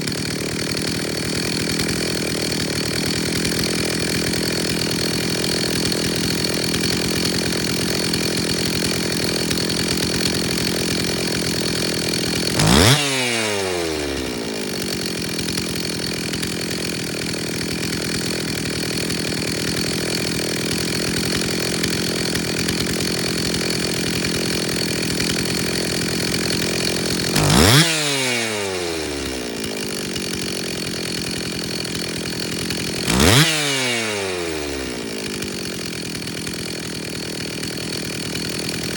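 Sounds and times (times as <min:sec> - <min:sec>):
chainsaw engine idling and revving: 0:00.0 - 0:38.9.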